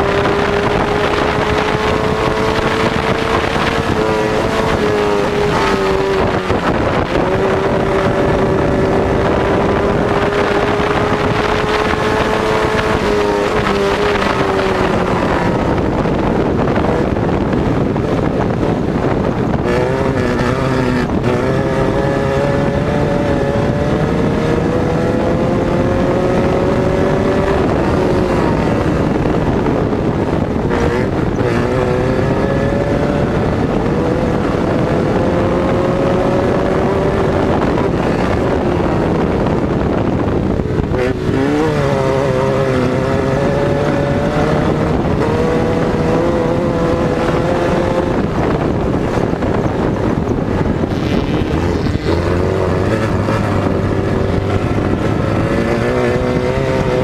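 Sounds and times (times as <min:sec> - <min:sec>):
buggy engine racing: 0:00.0 - 0:57.0
wind buffeting microphone: 0:00.0 - 0:57.0.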